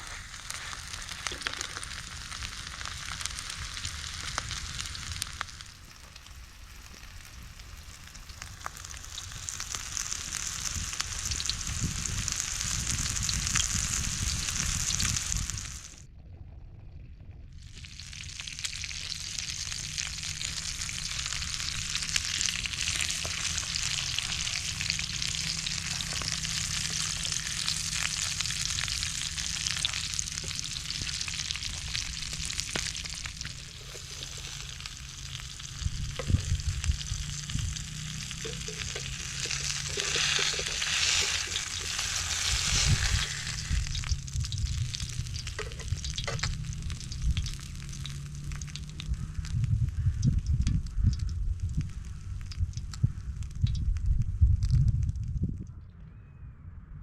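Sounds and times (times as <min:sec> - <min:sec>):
fish sizzling in hot oil: 0:00.0 - 0:16.0, 0:17.6 - 0:54.5.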